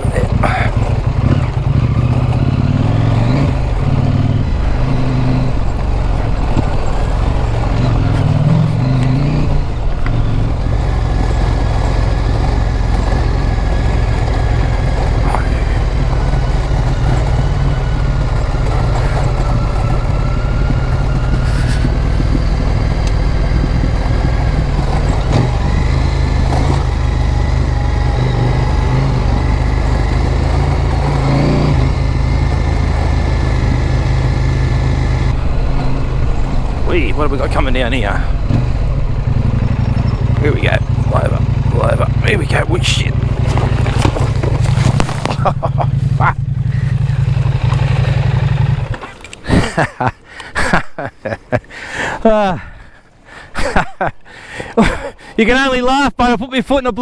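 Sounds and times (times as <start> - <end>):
motorcycle engine running: 0.0 - 51.6
road noise: 0.0 - 56.0.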